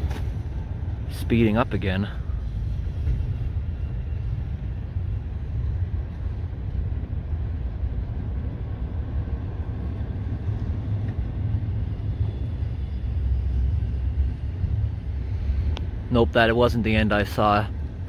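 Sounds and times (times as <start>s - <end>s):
freight train cars rumbling past: 0.0s - 18.0s.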